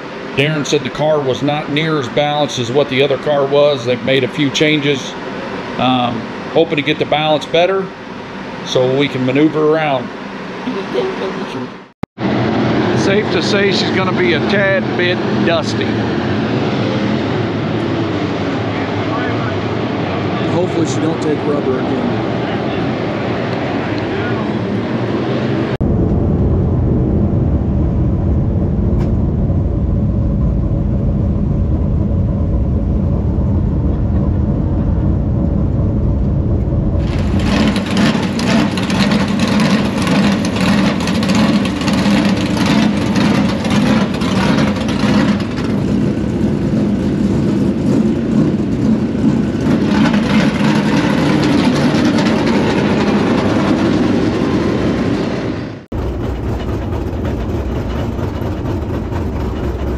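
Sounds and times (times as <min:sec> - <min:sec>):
race car engines: 0:00.0 - 0:25.8, 0:32.7 - 0:59.9.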